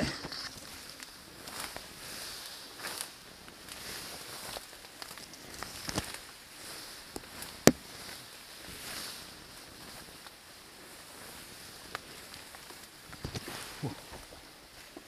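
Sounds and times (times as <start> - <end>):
reeds rustling and scraping: 0.0 - 15.0.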